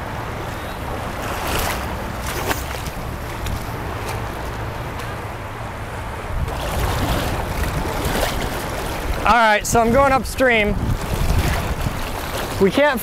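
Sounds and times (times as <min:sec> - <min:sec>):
fast river current rushing: 0:00.0 - 0:13.0
wind buffeting microphone: 0:00.0 - 0:13.0
splashes of person wading: 0:00.8 - 0:05.4, 0:06.4 - 0:12.9.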